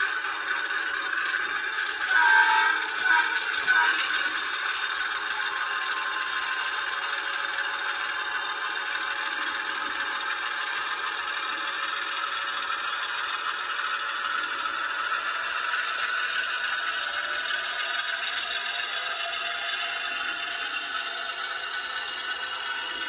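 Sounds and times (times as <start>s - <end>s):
model train diesel engine sound: 0.0s - 23.0s.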